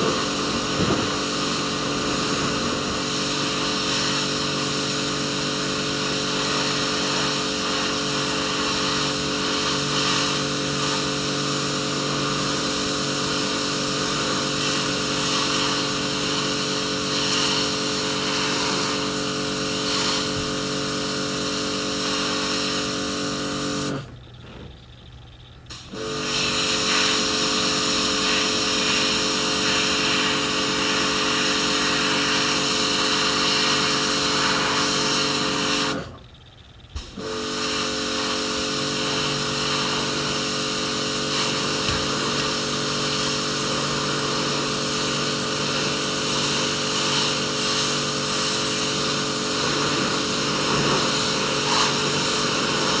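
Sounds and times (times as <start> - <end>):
high-pressure water jet hissing: 0.0 - 24.1, 25.7 - 36.2, 37.0 - 53.0
pressure washer pump humming: 0.0 - 36.3, 37.0 - 53.0.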